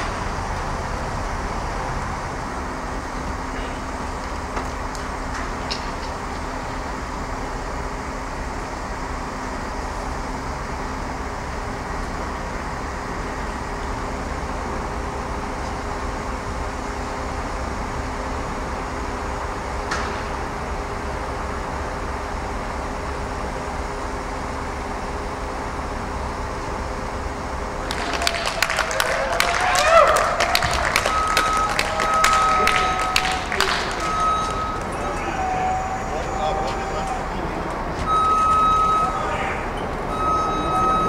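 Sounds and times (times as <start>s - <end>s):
engines and traffic rumble: 0.0s - 41.0s.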